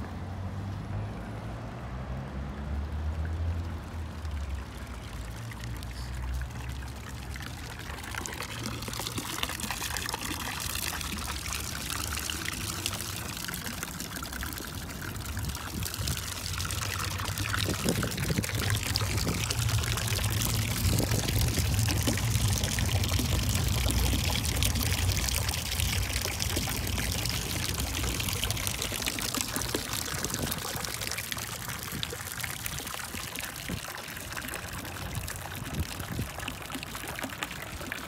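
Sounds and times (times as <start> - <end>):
fountain water splashing into basin: 2.4 - 38.0.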